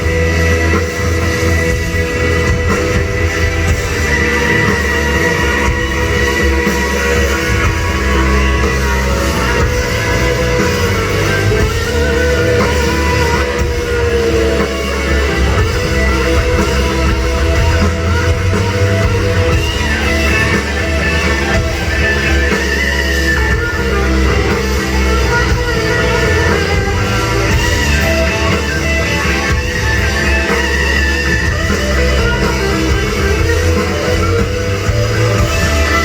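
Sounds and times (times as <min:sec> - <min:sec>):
electric guitar: 0:00.0 - 0:36.0
heavy bass: 0:00.0 - 0:36.0
rock band playing live: 0:00.0 - 0:36.0.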